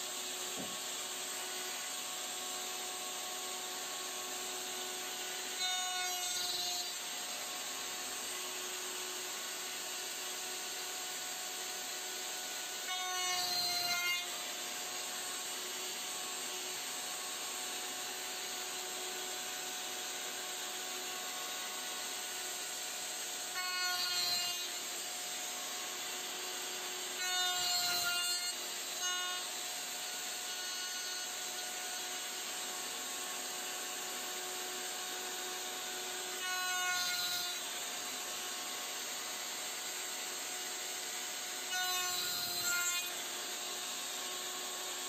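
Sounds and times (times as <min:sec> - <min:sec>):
router cutting wood: 0:00.0 - 0:45.0
router whining: 0:00.0 - 0:45.0.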